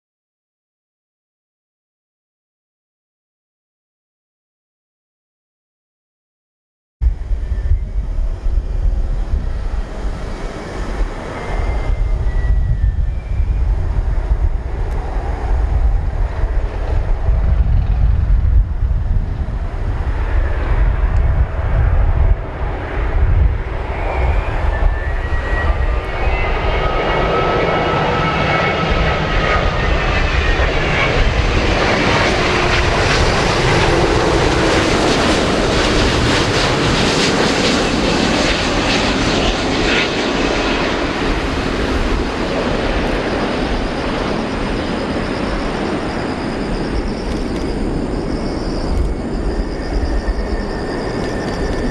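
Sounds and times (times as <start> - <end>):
jet engines roaring: 7.1 - 51.9.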